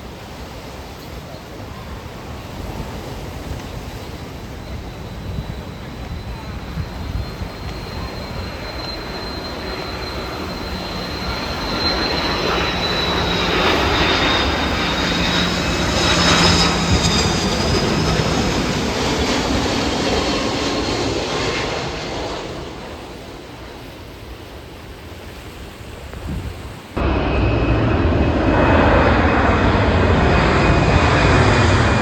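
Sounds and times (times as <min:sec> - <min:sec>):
jet engines passing by: 0:00.0 - 0:32.0.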